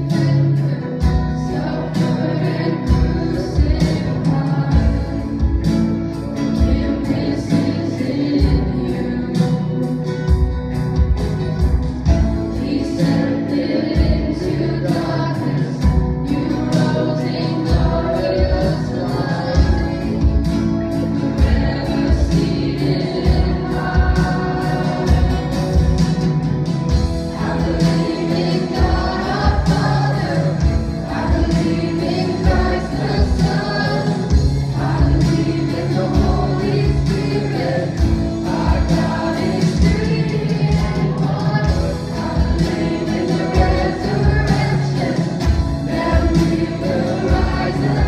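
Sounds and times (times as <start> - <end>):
drum kit beat: 0.0 - 48.0
guitars: 0.0 - 48.0
people singing: 0.0 - 48.0.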